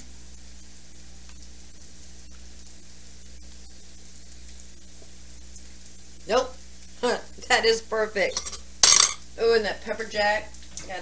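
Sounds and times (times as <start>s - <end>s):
low steady hum: 0.0s - 11.0s
onions sizzling in oil: 0.0s - 11.0s.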